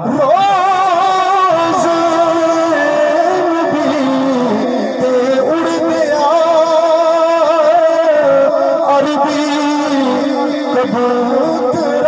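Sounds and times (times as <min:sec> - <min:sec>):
man singing through loudspeaker: 0:00.0 - 0:12.0.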